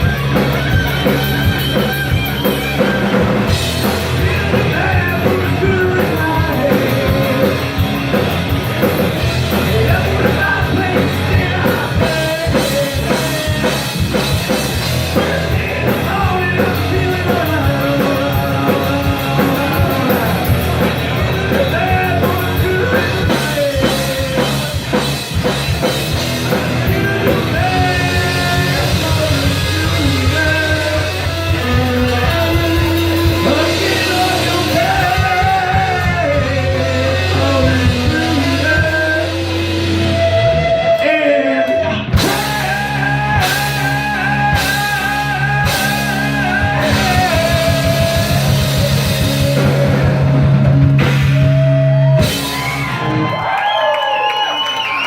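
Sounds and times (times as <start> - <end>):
live rock band playing: 0.0 - 55.0
person singing: 2.8 - 8.3, 8.9 - 25.6, 26.4 - 52.6.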